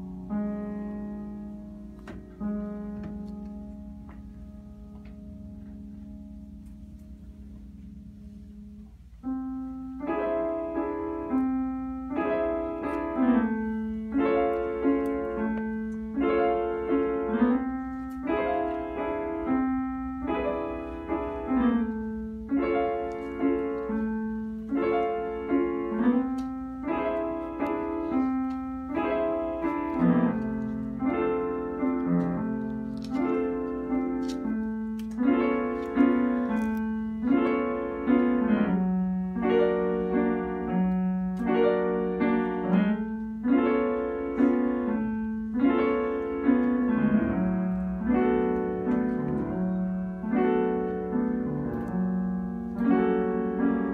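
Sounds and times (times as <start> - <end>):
grand piano chords: 0.0 - 53.9.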